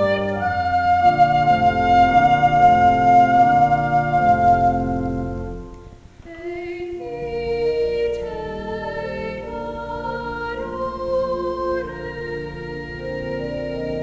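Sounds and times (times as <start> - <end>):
woman singing with vibrato: 0.0 - 5.4, 6.2 - 14.0
organ sustained chords: 0.0 - 14.0.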